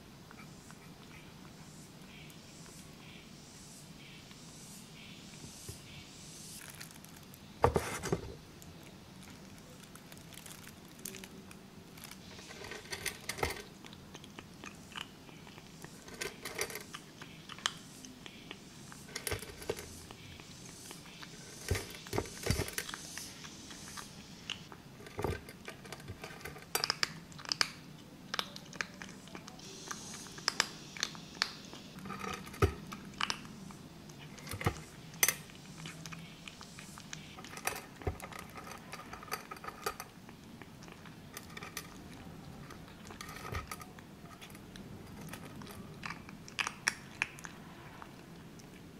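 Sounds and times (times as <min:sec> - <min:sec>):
kitten crunching dry kibble: 0:06.6 - 0:48.9.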